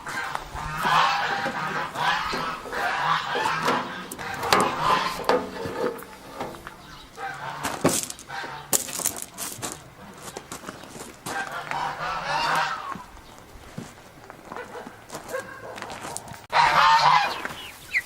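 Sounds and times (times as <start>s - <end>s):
geese honking: 0.0s - 13.5s, 14.5s - 18.0s.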